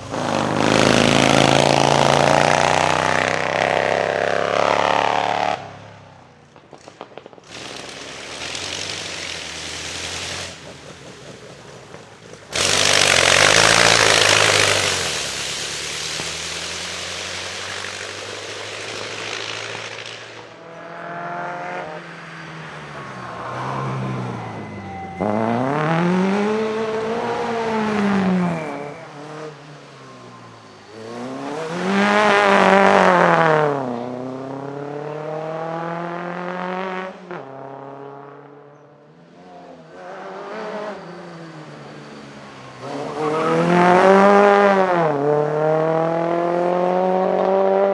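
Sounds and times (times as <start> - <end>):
car passing close with harsh blare: 0.0 - 47.9
racing car engines at full throttle: 0.0 - 47.9.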